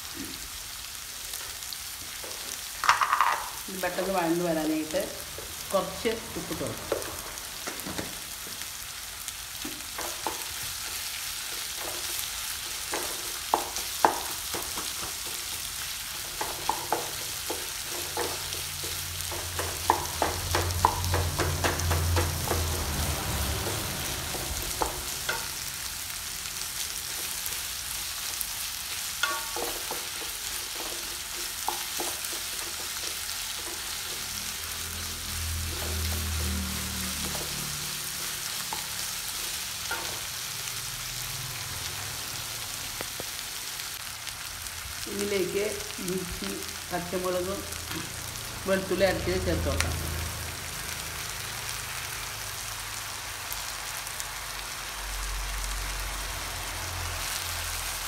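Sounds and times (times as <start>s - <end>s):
onions sizzling in pan: 0.0s - 58.0s.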